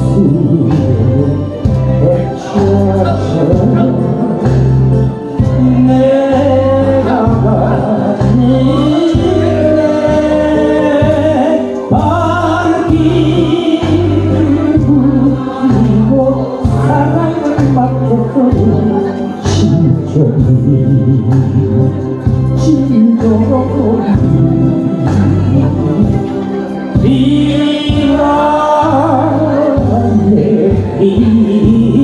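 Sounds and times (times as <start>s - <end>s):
backing track with bass beat: 0.0s - 32.0s
man singing: 0.0s - 32.0s.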